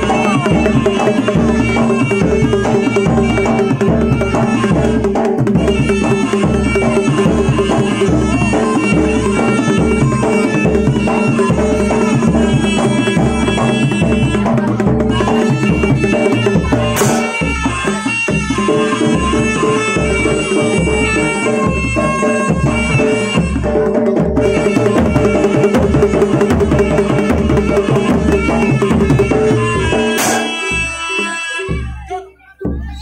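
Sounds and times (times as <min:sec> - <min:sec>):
drums and percussion beat: 0:00.0 - 0:33.0
reedy wind instrument melody: 0:00.0 - 0:33.0.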